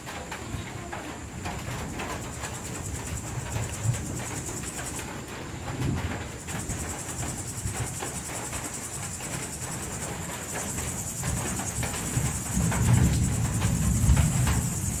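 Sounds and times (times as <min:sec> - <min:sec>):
crickets trilling: 0:00.0 - 0:15.0
frogs croaking: 0:00.0 - 0:15.0.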